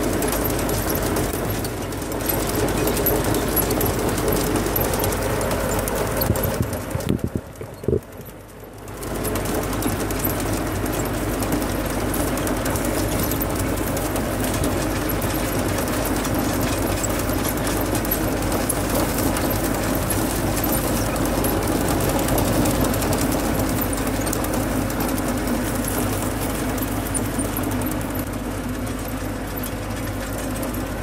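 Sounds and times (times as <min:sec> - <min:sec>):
chain conveyor rattling: 0:00.0 - 0:31.0
tractor engine running: 0:00.0 - 0:31.0.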